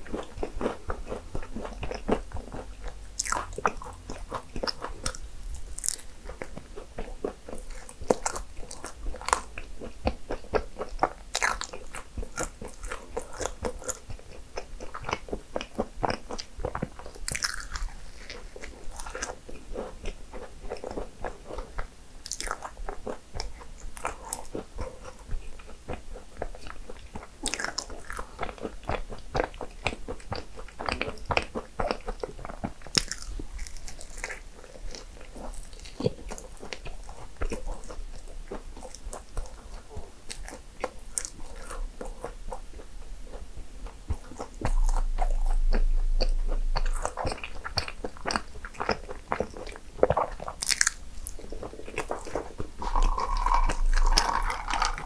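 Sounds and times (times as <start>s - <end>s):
person chewing pastry: 0.0s - 55.0s.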